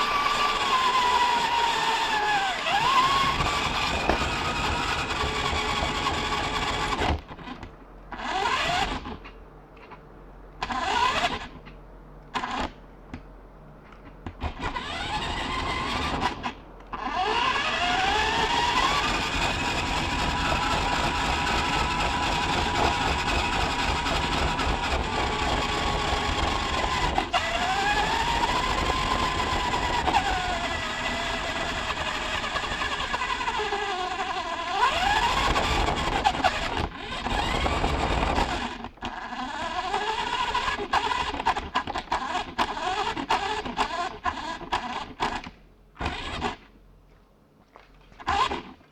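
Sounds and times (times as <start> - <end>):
model truck motor whirring: 0.0 - 9.4, 10.6 - 12.8, 14.3 - 46.7, 48.2 - 48.8.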